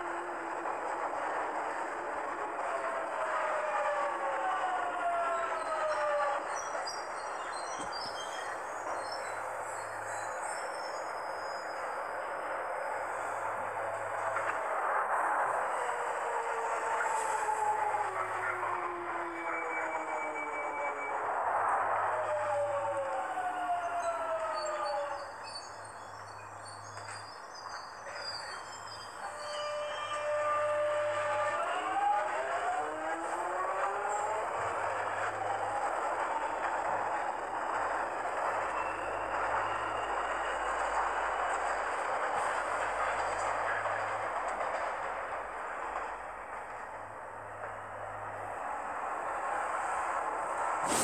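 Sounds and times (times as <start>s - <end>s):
train motor whine: 0.0s - 51.0s
wheels rushing on rail: 0.0s - 51.0s
faint high squeals: 2.7s - 45.0s.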